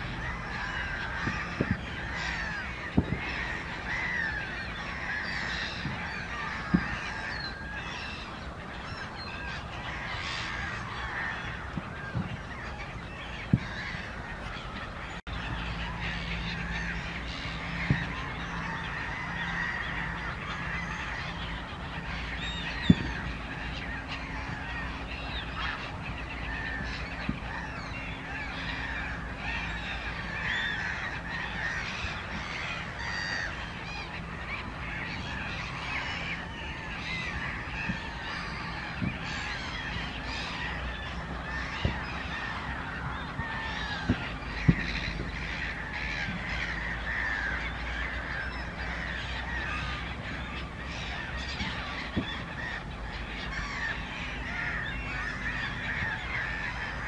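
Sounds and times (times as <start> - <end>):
flock of waterbirds honking: 0.0 - 57.0.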